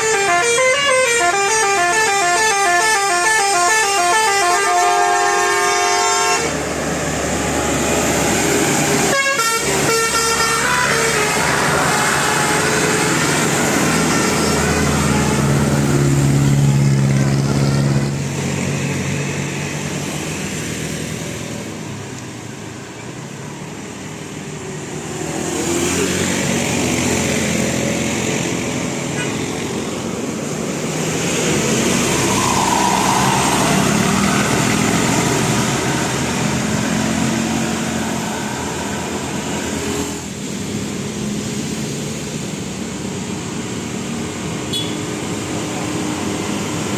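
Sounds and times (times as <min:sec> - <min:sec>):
vehicles passing by: 0:00.0 - 0:46.9.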